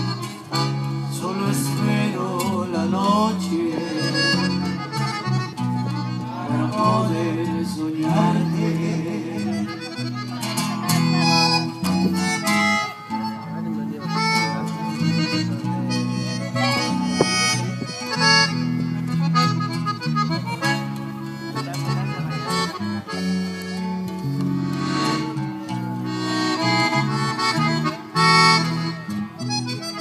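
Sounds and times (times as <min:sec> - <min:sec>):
free-reed instrument melody: 0:00.0 - 0:30.0
guitar: 0:00.0 - 0:30.0.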